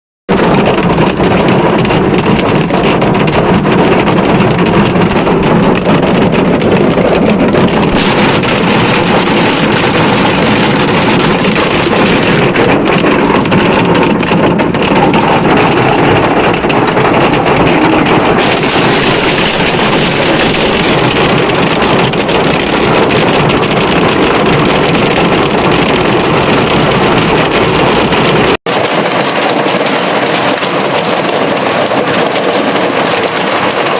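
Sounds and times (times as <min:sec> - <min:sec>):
heavy rain pouring: 0:00.3 - 0:33.9.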